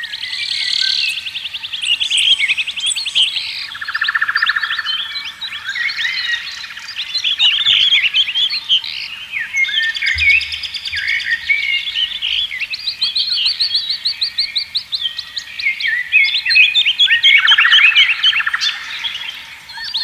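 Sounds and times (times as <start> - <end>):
songbirds singing and chirping: 0.0 - 20.0.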